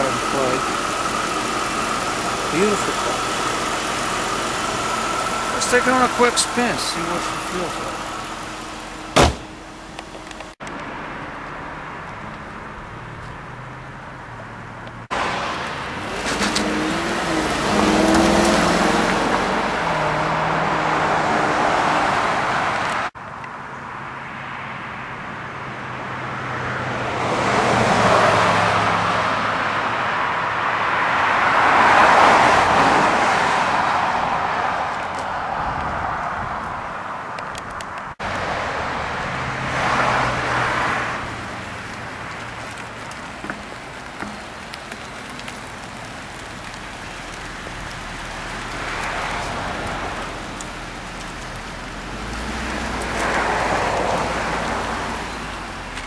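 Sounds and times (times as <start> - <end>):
car engine: 0.0 - 56.0
tyres rushing on road: 0.0 - 56.0.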